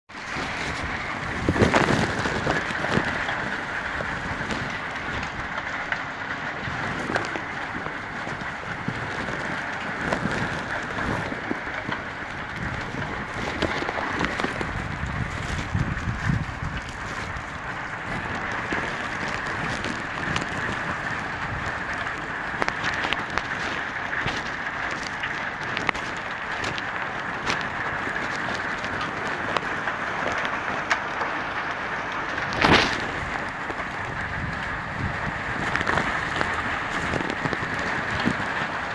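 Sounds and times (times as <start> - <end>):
rain and wind on microphone: 0.1 - 38.9.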